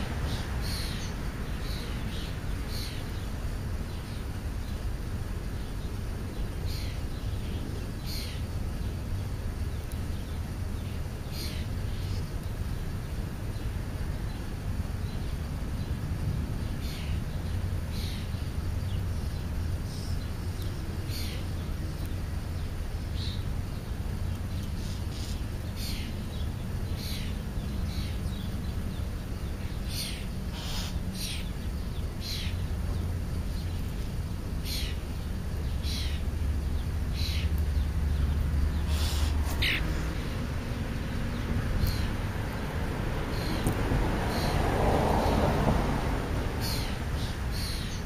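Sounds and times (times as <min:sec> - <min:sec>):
birds chirping: 0:00.0 - 0:45.6, 0:46.5 - 0:48.0.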